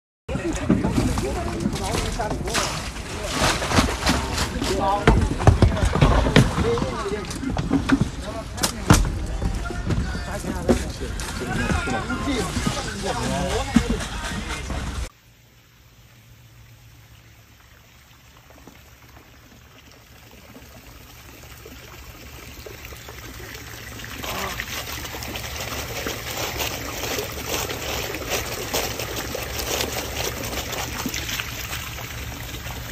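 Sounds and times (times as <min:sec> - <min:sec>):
water pouring and splashing: 0:00.3 - 0:32.9.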